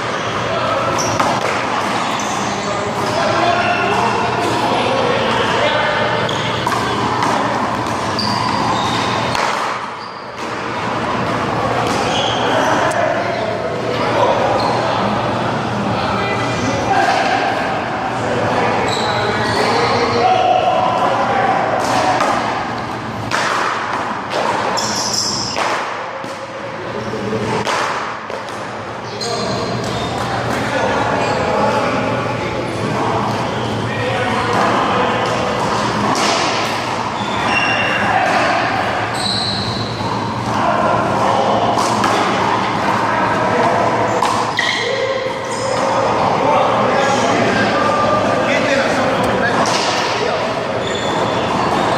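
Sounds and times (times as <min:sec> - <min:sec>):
faint voices: 0:00.0 - 0:51.9
steady background noise: 0:00.0 - 0:51.9.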